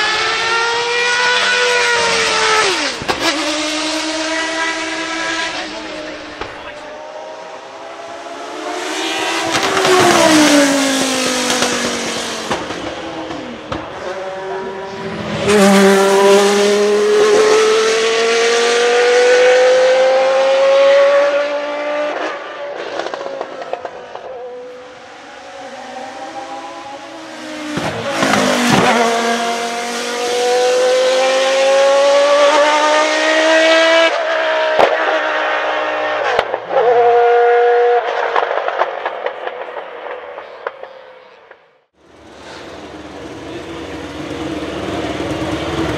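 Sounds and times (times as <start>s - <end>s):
race car engine at full throttle: 0.0s - 45.9s.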